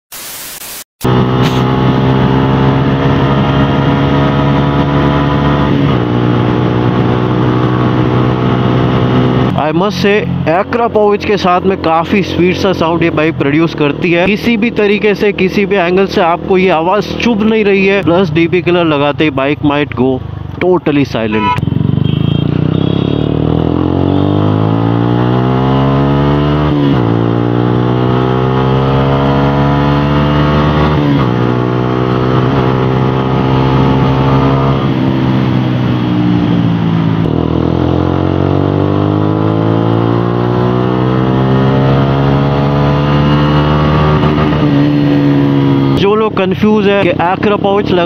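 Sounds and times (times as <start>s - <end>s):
motorcycle engine accelerating: 1.0s - 19.6s, 21.3s - 48.0s.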